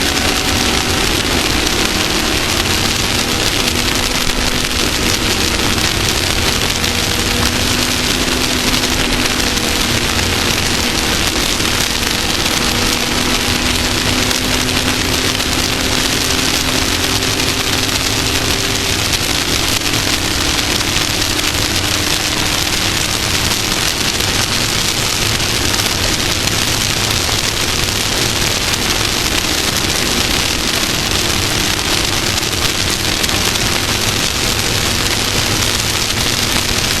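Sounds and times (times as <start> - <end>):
race vehicle engine: 0.0 - 37.0.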